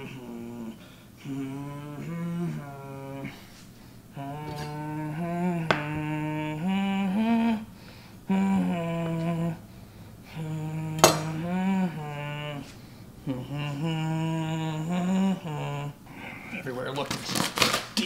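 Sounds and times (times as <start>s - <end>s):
man humming: 0.0s - 3.5s, 4.1s - 16.6s.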